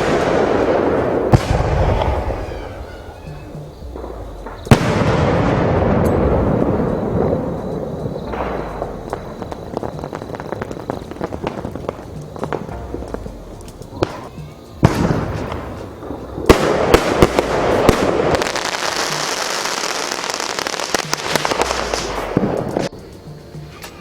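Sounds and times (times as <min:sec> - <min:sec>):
firework bangs: 0:00.0 - 0:23.0
firework hissing rush: 0:00.0 - 0:24.0.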